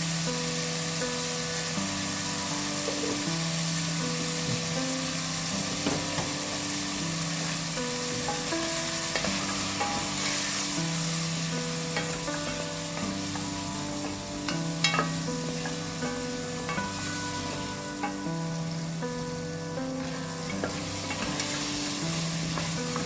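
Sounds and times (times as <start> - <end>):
food sizzling in oil: 0.0 - 23.0
soft background music: 0.0 - 23.0.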